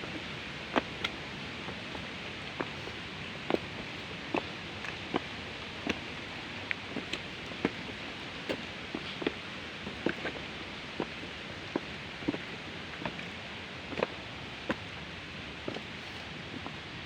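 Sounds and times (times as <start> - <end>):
footsteps on stony trail: 0.0 - 16.9.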